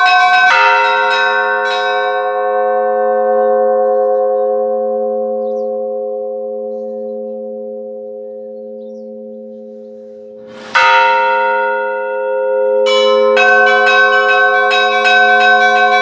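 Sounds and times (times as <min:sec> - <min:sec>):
church bell ringing: 0:00.0 - 0:09.4, 0:10.5 - 0:16.0.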